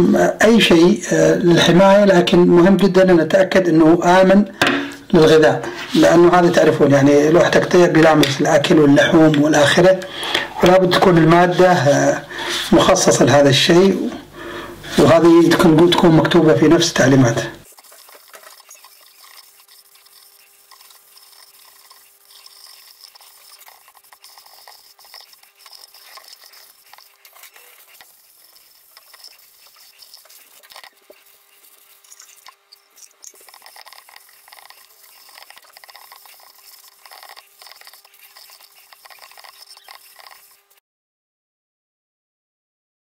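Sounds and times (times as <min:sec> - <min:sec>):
faint steady hum: 0:00.0 - 0:40.8.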